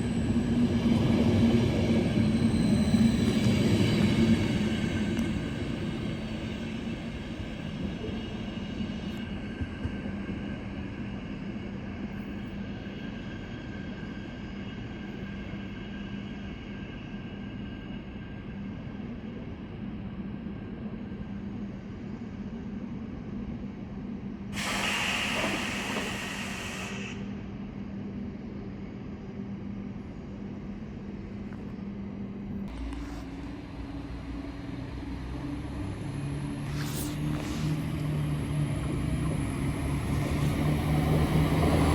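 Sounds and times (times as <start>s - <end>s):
train low hum: 0.0s - 41.9s.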